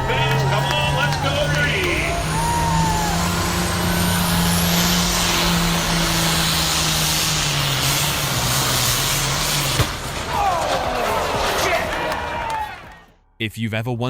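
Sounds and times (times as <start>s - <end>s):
tractor engine running flat out: 0.0s - 13.0s.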